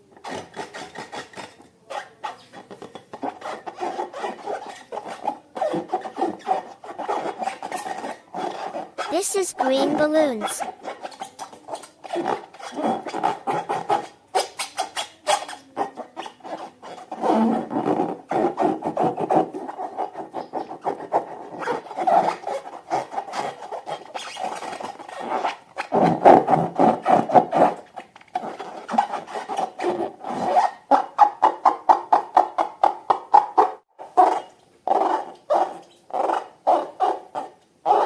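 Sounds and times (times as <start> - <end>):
rubbery balloon rubbing: 0.0 - 38.0.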